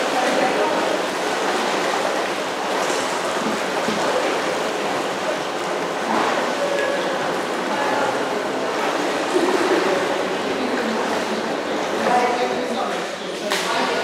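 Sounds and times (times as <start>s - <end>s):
water sloshing in a pool: 0.0s - 14.0s.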